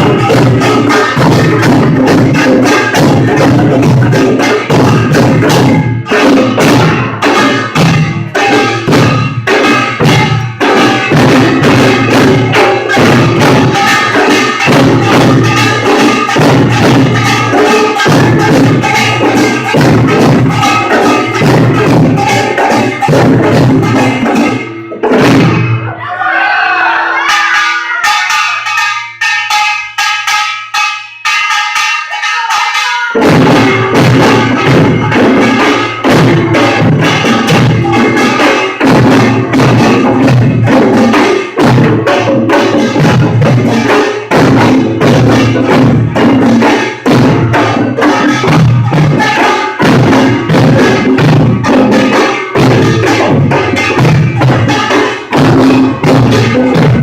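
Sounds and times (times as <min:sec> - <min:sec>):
percussion troupe gongs and drums: 0:00.0 - 0:57.0.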